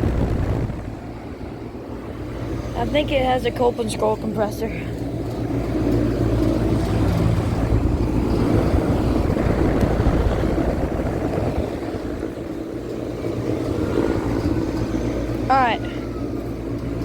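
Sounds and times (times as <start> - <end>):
air conditioner low hum: 0.0 - 17.0
condenser fan rushing: 0.0 - 17.0.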